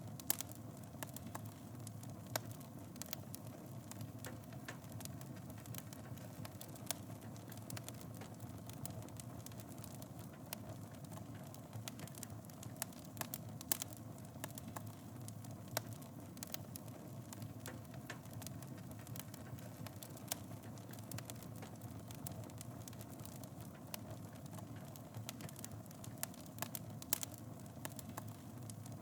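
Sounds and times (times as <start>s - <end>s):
fire crackling and popping: 0.0s - 29.0s
wood fire burning: 0.0s - 29.0s.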